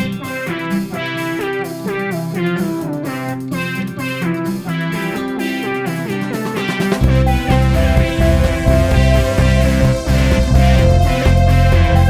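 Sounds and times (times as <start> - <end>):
background music with plucked guitar: 0.0 - 12.0.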